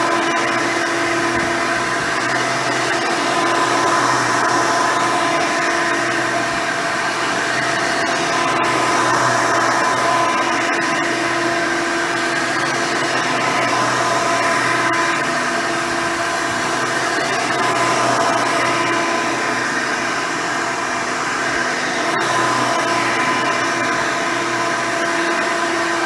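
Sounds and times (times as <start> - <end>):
upright vacuum cleaner running: 0.0 - 26.0.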